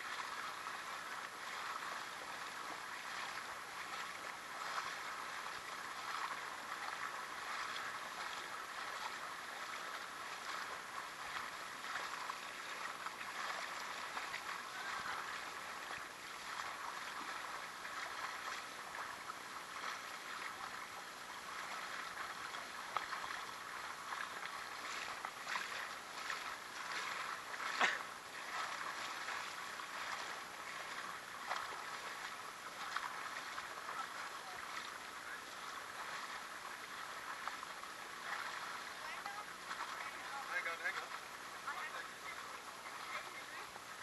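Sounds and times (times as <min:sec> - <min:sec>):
creek water gurgling: 0:00.0 - 0:44.0
small water splashes: 0:00.0 - 0:44.0.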